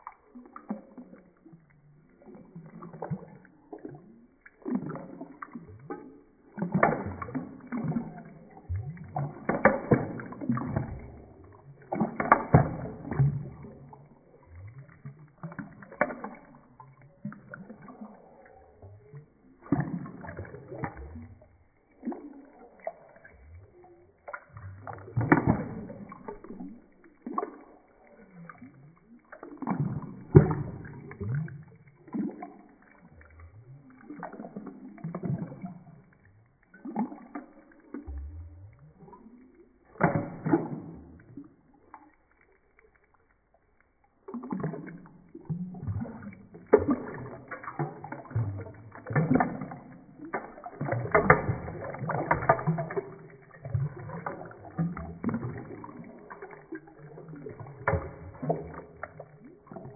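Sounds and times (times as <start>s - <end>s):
water sloshing in a sink: 0.0s - 59.9s.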